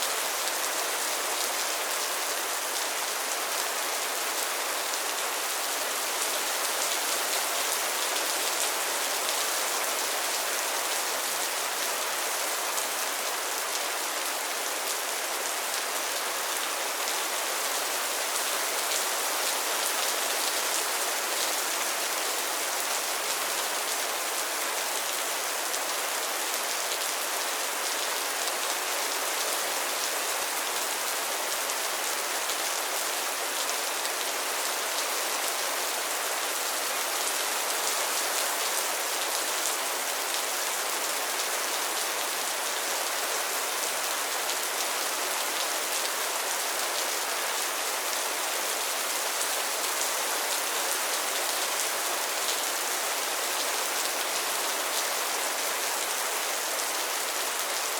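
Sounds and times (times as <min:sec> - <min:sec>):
rain falling on pond water: 0:00.0 - 0:57.9.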